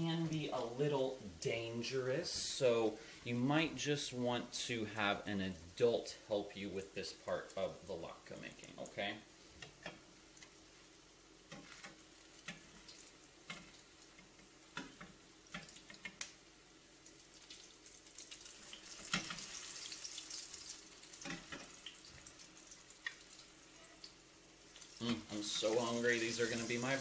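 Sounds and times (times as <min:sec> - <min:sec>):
latkes sizzling in hot oil: 0:04.7 - 0:27.0.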